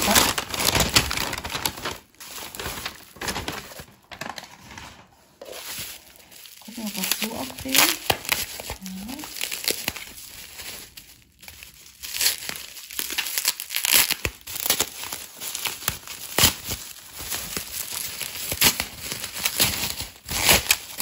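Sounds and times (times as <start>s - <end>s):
bubble wrap crinkling and rustling: 0.0s - 21.0s.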